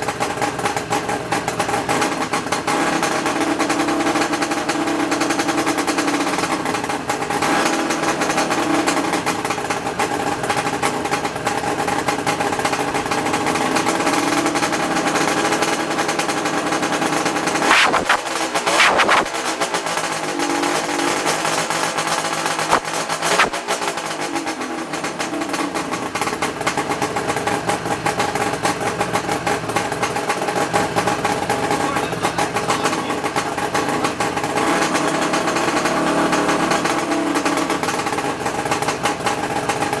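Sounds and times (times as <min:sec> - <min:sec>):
two-stroke motorcycle engine revving: 0:00.0 - 0:40.0.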